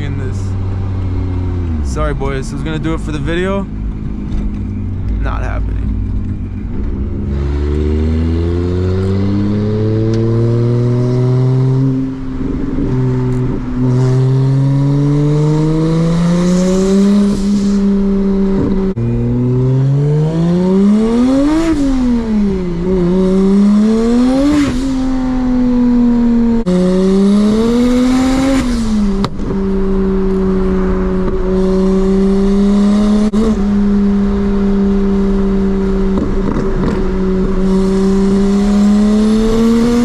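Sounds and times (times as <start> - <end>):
car engine accelerating and revving: 0.0 - 40.0.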